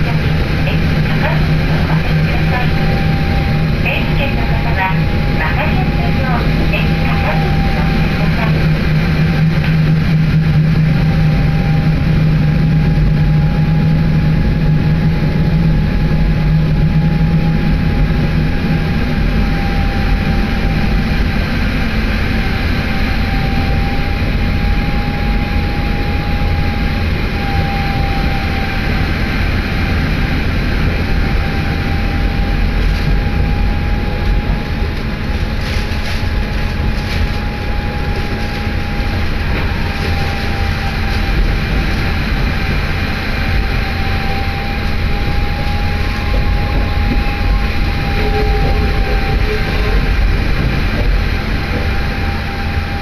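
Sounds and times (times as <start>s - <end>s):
faint steady whine: 0.0s - 53.0s
railcar engine and wheels rumbling: 0.0s - 53.0s.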